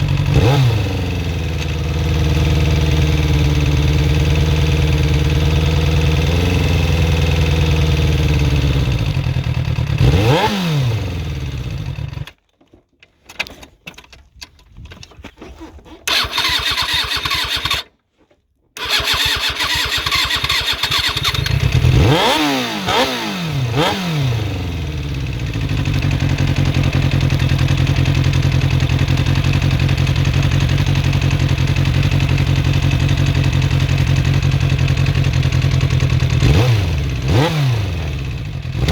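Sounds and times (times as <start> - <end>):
engine revving: 0.0 - 12.2, 18.8 - 38.9
engine ticking: 0.0 - 12.3, 16.1 - 17.9, 18.8 - 38.9
motorcycle engine idling: 0.0 - 12.3, 18.8 - 22.4, 23.6 - 38.9.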